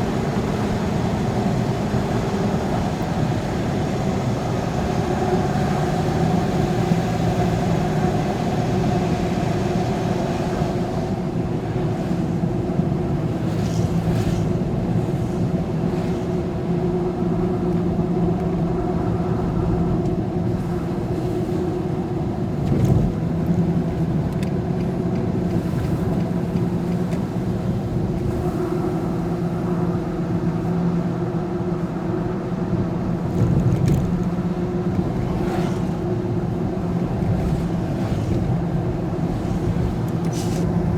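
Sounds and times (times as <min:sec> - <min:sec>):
vehicle engine drone: 0:00.0 - 0:40.9.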